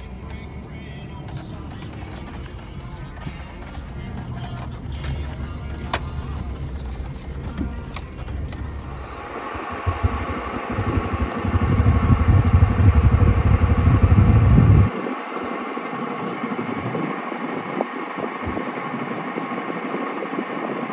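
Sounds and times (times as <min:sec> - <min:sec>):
heavy low rumble: 0:00.0 - 0:19.6
vehicle engine idling: 0:00.0 - 0:20.9.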